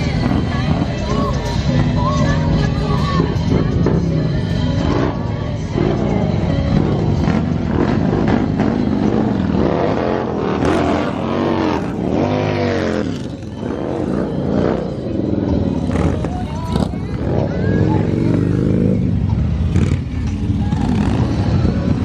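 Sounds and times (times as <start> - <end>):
vehicle engines revving: 0.0 - 22.0.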